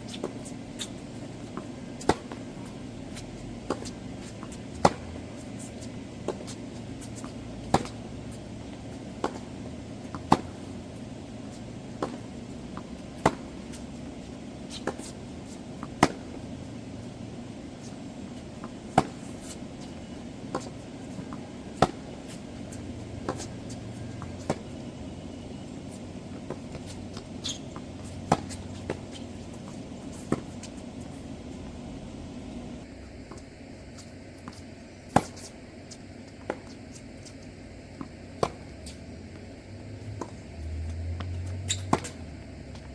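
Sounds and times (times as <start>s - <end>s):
tennis ball bounces: 0.1s - 33.4s, 34.4s - 42.9s
tennis balls struck by rackets: 0.1s - 33.5s, 34.4s - 42.9s.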